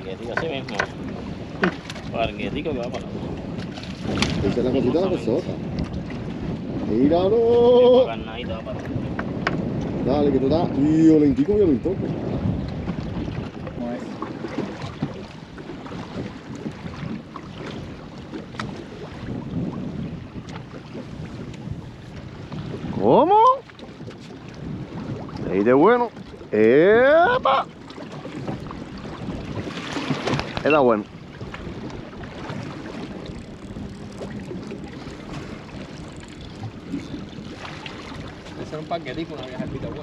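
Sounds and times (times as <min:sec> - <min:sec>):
moving water: 0:00.0 - 0:40.0
wind buffeting microphone: 0:00.0 - 0:40.0.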